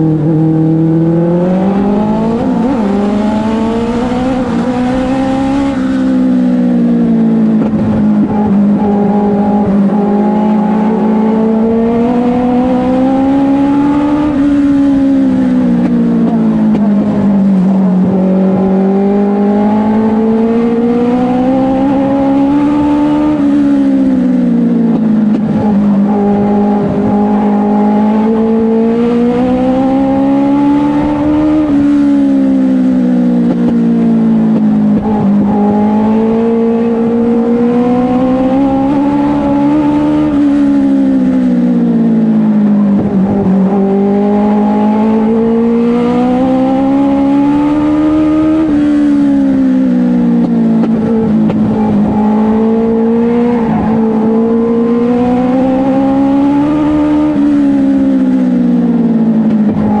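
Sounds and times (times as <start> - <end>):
race car engine accelerating: 0.0 - 60.0.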